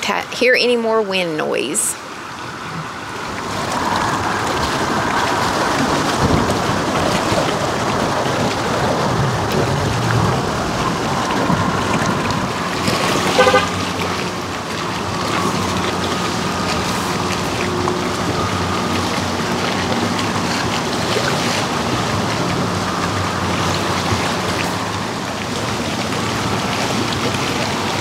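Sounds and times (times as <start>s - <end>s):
wind on microphone: 2.6s - 28.0s.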